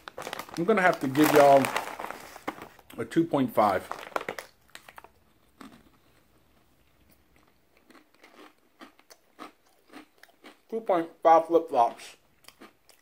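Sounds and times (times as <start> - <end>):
person chewing crunchy chips: 0.0 - 3.0, 3.6 - 11.0, 11.9 - 13.0.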